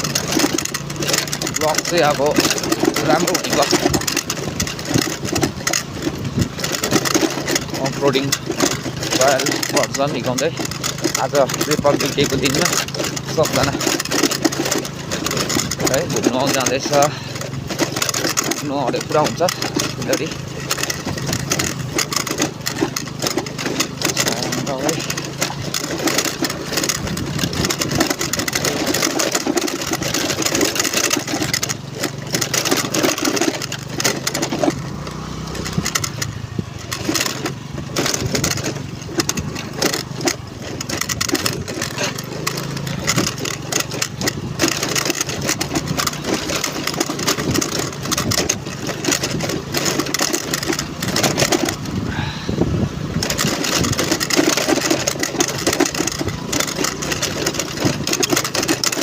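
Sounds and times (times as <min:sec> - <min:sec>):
motorbike engine running: 0:00.0 - 0:59.0
road and wind noise: 0:00.0 - 0:59.0.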